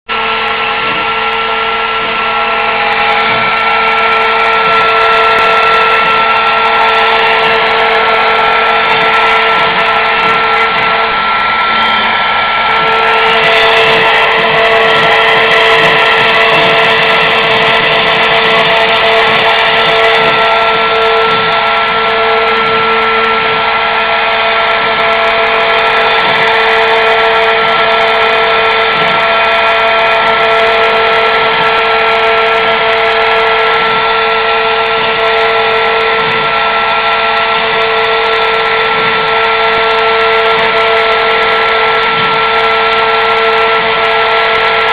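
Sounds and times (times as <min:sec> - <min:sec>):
end mill cutting wood: 0:00.1 - 0:44.9
milling machine spindle whine: 0:00.1 - 0:44.9.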